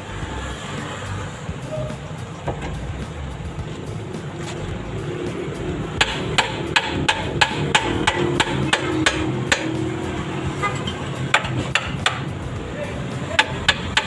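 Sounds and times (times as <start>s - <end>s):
hammer blows on metal: 0.0s - 14.0s.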